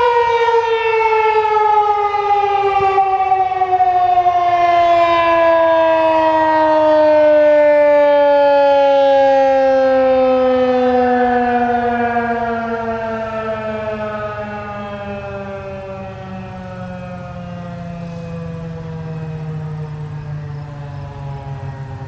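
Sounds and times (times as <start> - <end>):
tornado siren winding down: 0.0 - 22.0.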